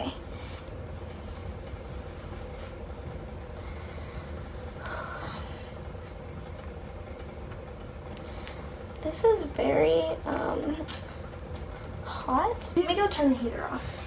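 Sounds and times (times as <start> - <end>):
room heater humming: 0.0 - 14.0.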